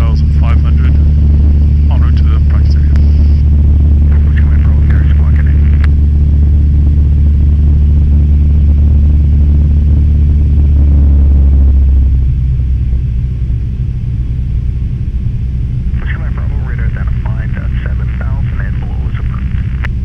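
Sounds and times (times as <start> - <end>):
airplane engine and propeller droning: 0.0 - 20.0.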